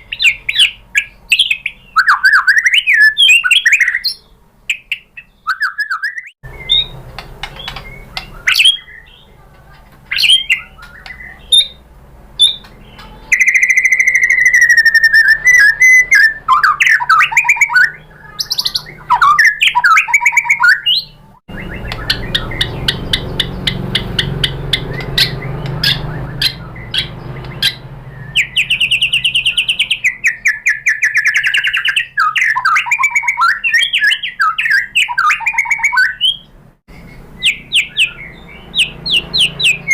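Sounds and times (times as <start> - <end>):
bird singing whistles and trills: 0.0 - 9.3, 10.1 - 11.8, 12.4 - 39.9.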